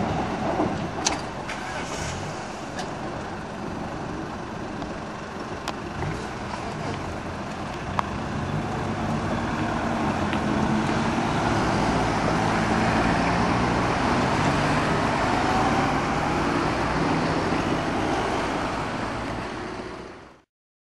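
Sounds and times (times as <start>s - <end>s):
cars passing: 0.0s - 20.4s.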